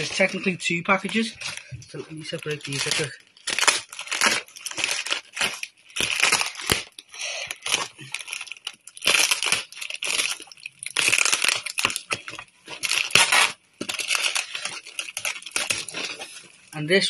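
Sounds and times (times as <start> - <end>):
plastic bags and tape crinkling: 0.0 - 17.0
tape tearing: 1.1 - 16.5.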